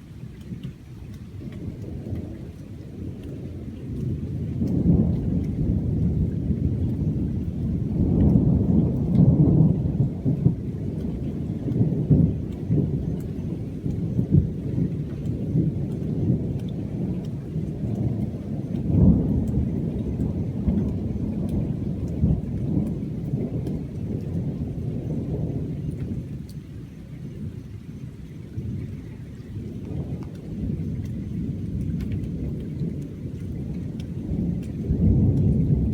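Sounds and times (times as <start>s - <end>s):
rain falling: 0.0s - 35.9s
thunder rumbling: 1.3s - 35.9s.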